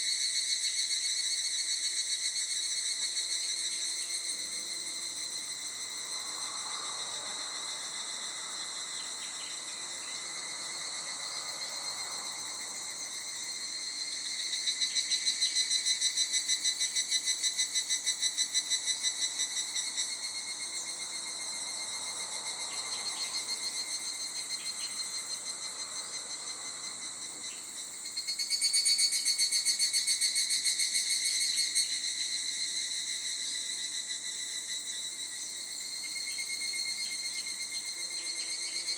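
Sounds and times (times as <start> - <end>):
insects buzzing drone: 0.0 - 38.9.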